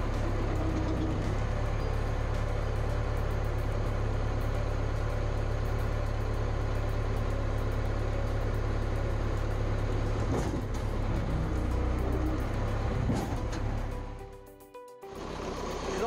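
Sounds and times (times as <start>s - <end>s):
backhoe diesel engine running: 0.0s - 16.0s.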